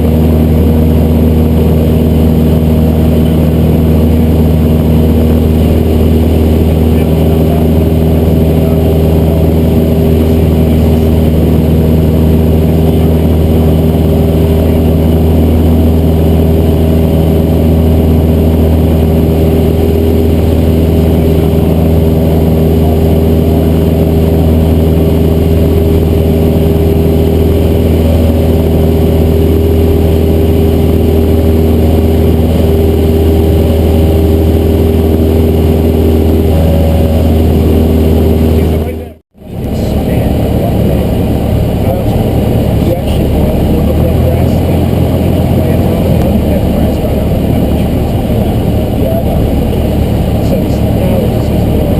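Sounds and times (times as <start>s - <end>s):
propeller plane engine drone: 0.0s - 51.9s.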